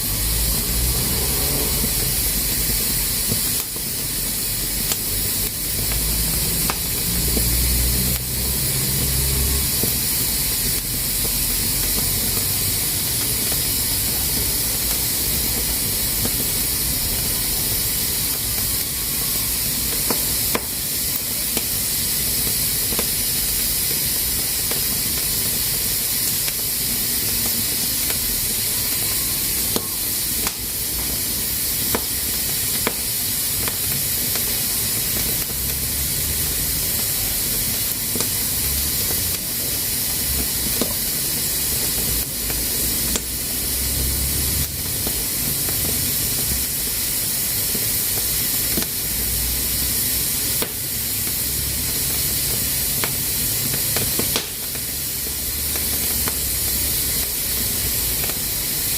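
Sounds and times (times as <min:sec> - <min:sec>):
pressure cooker hissing: 0:00.0 - 0:58.9.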